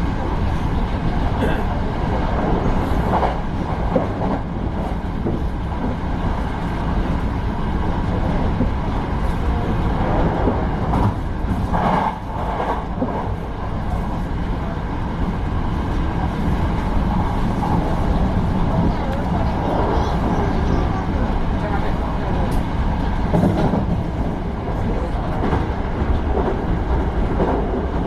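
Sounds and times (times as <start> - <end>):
electric train rumbling on rails: 0.0 - 28.0.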